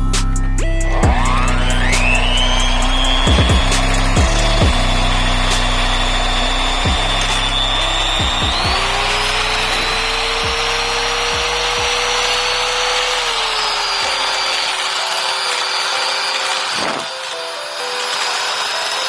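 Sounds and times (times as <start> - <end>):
electric mixer motor whine: 0.5 - 19.0.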